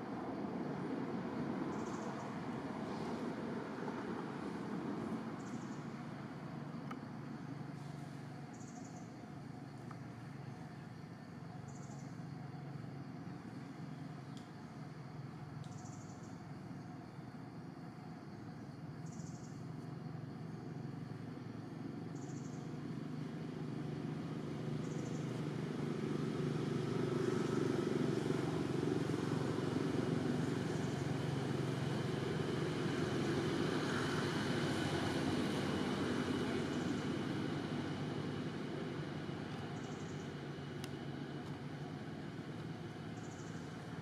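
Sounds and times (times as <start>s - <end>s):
vehicle engine rumbling: 0.0s - 17.1s, 18.8s - 44.0s.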